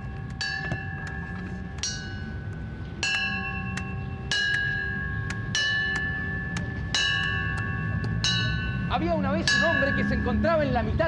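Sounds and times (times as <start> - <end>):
bell ringing: 0.0 - 10.9.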